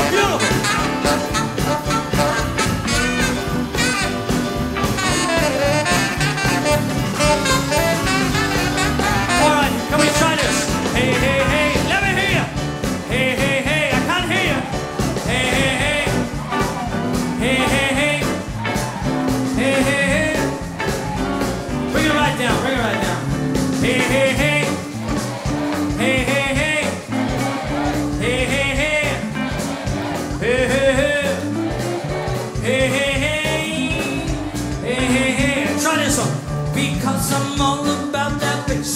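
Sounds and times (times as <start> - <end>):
swing band playing: 0.0 - 38.9.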